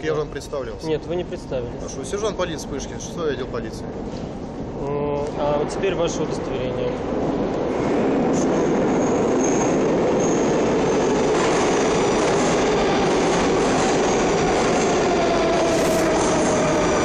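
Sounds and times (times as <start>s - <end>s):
train wheels rumbling on rails: 0.0s - 17.0s
train whine: 0.0s - 17.0s.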